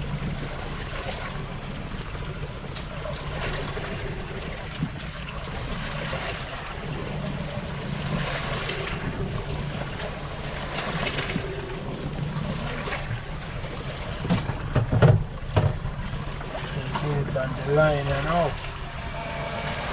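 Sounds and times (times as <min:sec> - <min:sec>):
sea washing around a boat: 0:00.0 - 0:19.9
steady low hum: 0:00.0 - 0:19.9.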